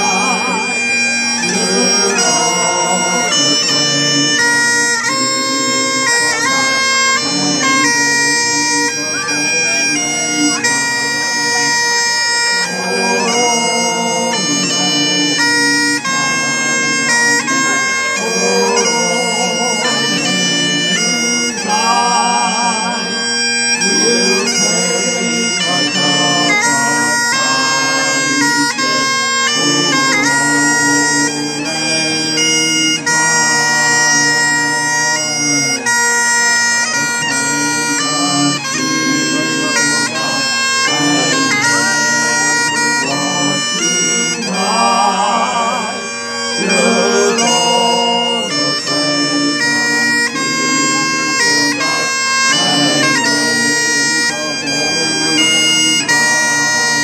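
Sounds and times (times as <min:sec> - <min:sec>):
bagpipes playing a tune: 0:00.0 - 0:57.0.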